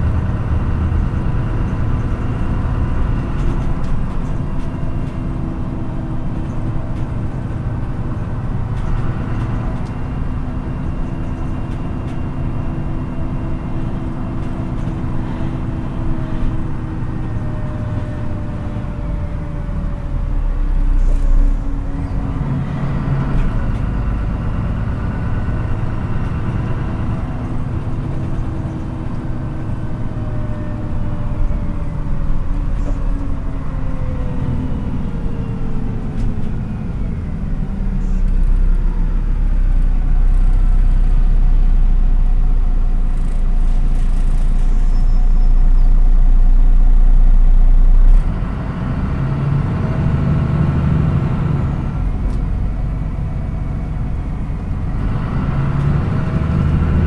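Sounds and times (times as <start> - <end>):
low rumble: 0.0 - 48.7
bus diesel engine running: 0.0 - 57.0.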